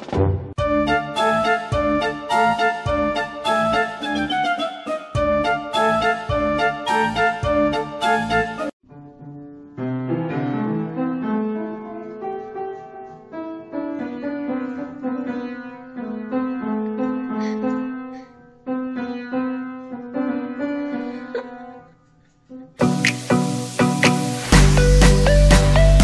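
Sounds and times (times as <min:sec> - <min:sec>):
piano notes and chords: 0:00.1 - 0:21.8, 0:22.8 - 0:26.0.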